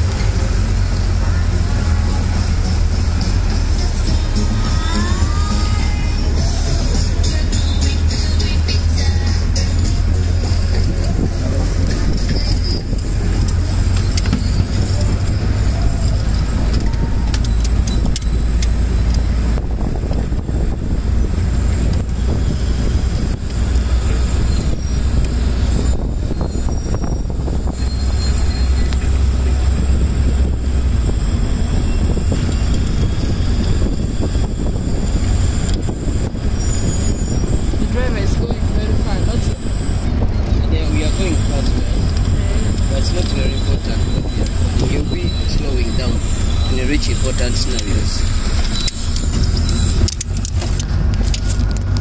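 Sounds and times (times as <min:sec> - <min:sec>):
vehicle engine and tyre rumble: 0:00.0 - 0:52.0.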